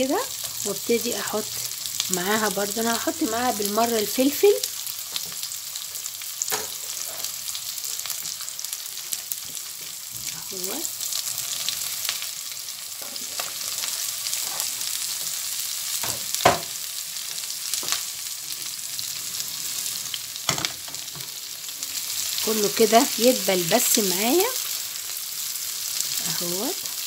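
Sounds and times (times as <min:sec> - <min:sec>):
vegetables sizzling in frying pan: 0:00.0 - 0:27.0.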